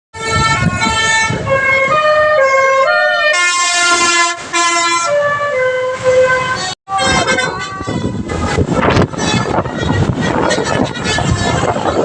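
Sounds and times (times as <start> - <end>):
multi-tone bus horn playing a tune: 0.2 - 12.0.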